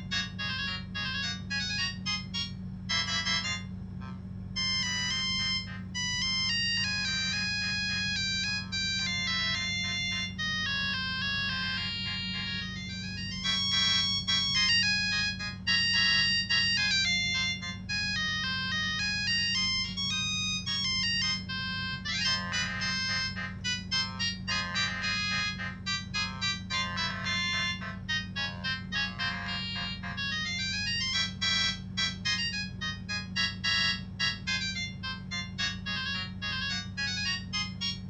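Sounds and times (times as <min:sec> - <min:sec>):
phone ringtone synthesized melody: 0:00.0 - 0:38.0
steady low hum: 0:00.0 - 0:38.0.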